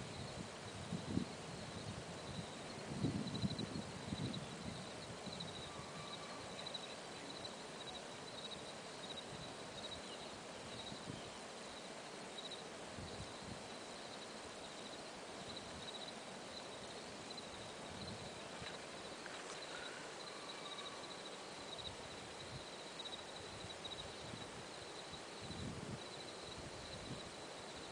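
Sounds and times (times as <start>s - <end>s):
steady soft hiss: 0.0s - 27.9s.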